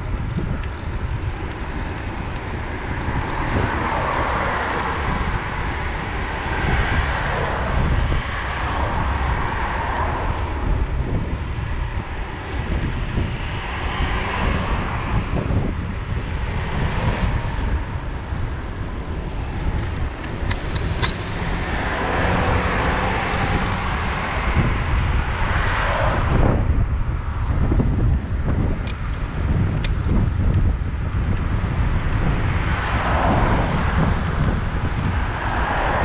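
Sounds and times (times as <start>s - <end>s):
vehicles passing: 0.0s - 36.0s
wind rumble on microphone: 0.0s - 36.0s.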